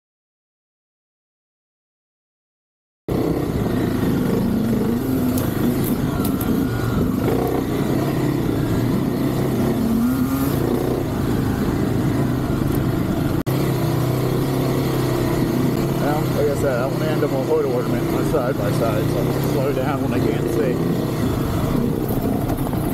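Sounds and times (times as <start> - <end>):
dirt bike engine running: 3.1 - 22.9.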